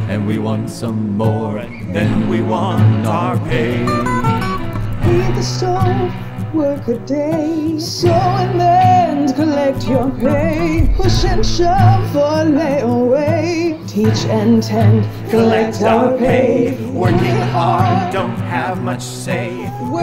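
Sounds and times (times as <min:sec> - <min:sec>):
guitar: 0:00.0 - 0:20.0
piano: 0:00.0 - 0:20.0
voices singing with vibrato: 0:00.0 - 0:20.0.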